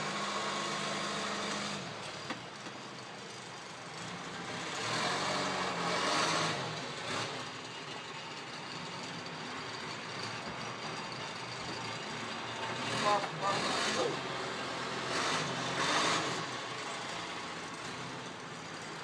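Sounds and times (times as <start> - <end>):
backhoe diesel engine revving: 0.0 - 19.0.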